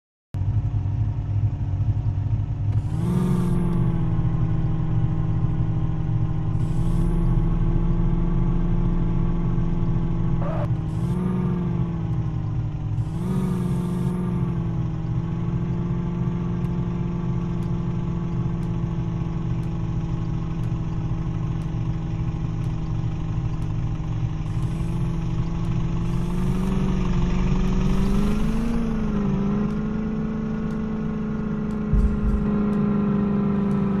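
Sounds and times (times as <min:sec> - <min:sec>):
backhoe diesel engine running: 0:00.4 - 0:34.0.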